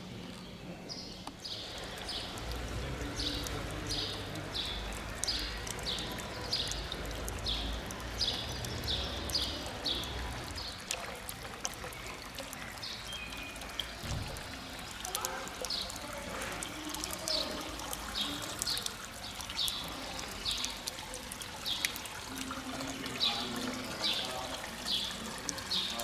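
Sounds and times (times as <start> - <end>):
fountain pouring water into basin: 0.0 - 26.0.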